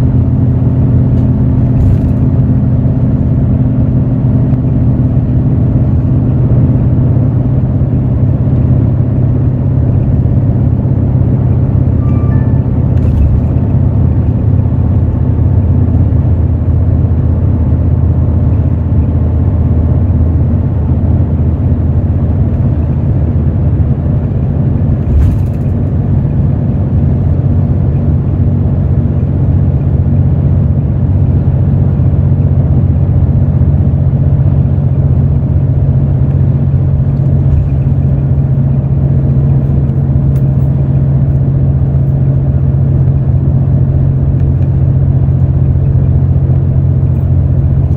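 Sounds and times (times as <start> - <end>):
bus diesel engine drone: 0.0 - 47.9.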